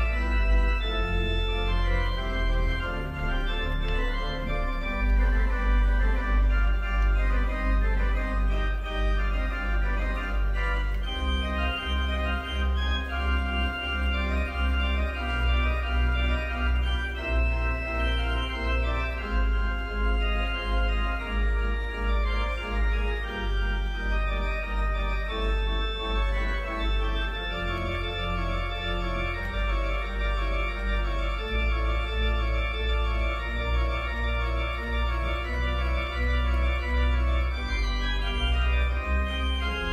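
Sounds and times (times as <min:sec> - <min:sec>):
organ playing sustained chords: 0:00.0 - 0:39.9.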